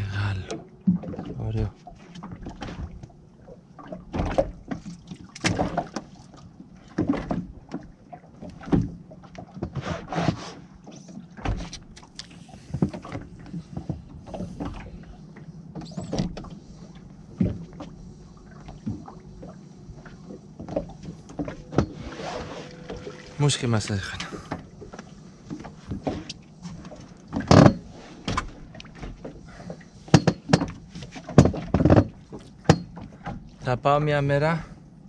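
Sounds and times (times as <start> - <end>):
low steady hum: 0.0 - 9.7, 10.6 - 35.0
water splashes: 0.0 - 34.8.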